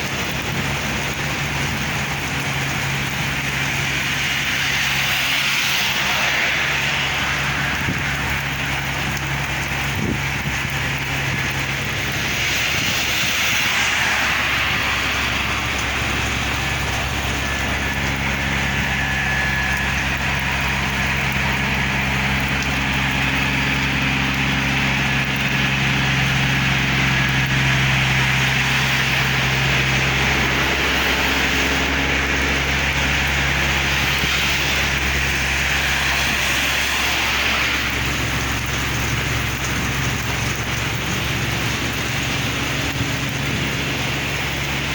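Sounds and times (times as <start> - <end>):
heavy rain falling: 0.0 - 44.9
vehicle engine humming: 0.0 - 44.9.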